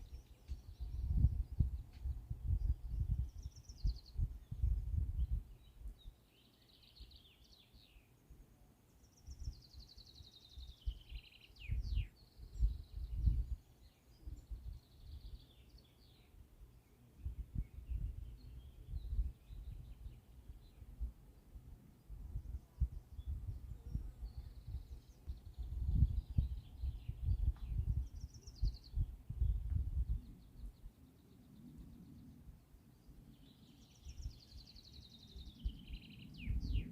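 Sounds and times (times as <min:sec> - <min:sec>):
songbirds trilling: 0:00.0 - 0:36.9.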